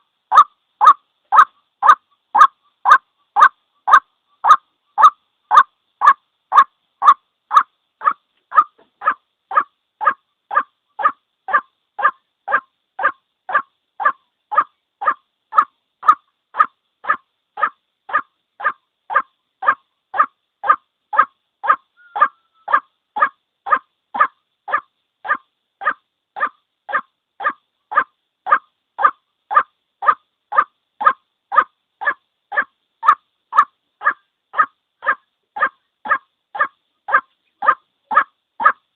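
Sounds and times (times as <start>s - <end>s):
waterhen call: 0.3s - 38.8s.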